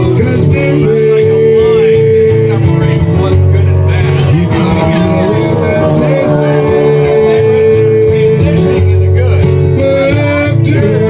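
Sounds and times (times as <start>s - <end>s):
acoustic guitar: 0.0s - 11.0s
man singing into a microphone: 0.0s - 11.0s.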